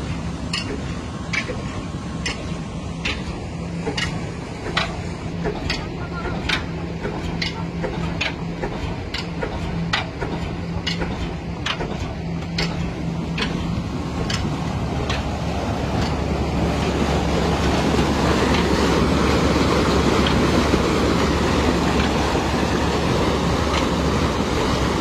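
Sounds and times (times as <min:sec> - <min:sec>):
stationary engine clacking: 0:00.0 - 0:25.0
steady engine rumble: 0:00.0 - 0:25.0.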